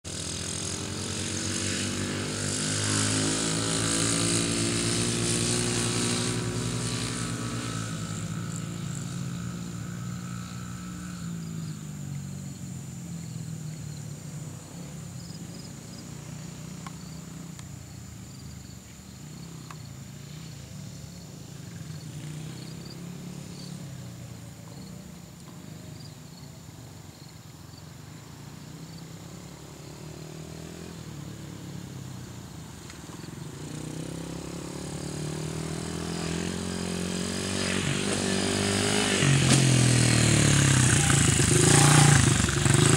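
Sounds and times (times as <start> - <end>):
dirt bike engine passing: 0.0 - 26.4, 28.1 - 42.9.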